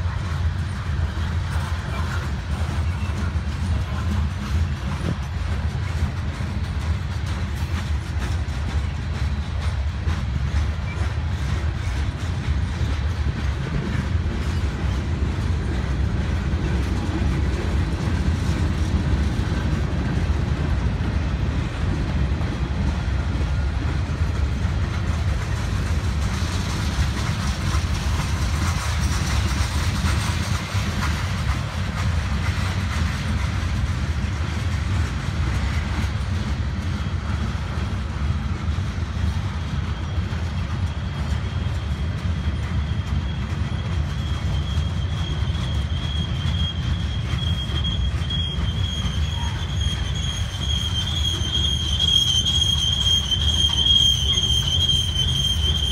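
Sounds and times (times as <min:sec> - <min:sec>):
freight train rumbling past: 0:00.0 - 0:55.9.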